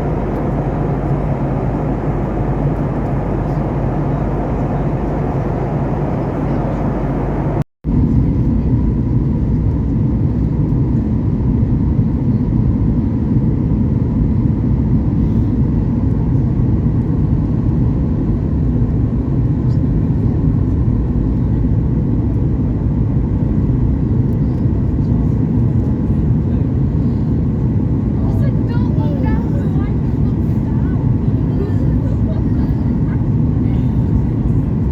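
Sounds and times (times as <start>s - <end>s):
jet cabin engine rumble: 0.0s - 34.9s.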